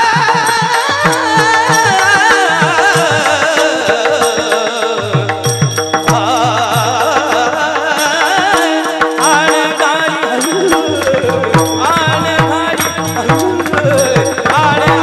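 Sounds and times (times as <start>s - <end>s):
harmonium drone: 0.0s - 15.0s
person singing ornamented lines: 0.0s - 15.0s.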